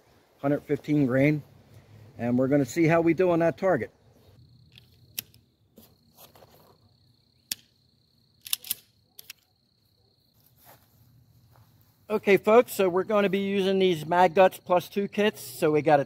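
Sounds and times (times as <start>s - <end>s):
high insect trill: 0.9s - 16.0s.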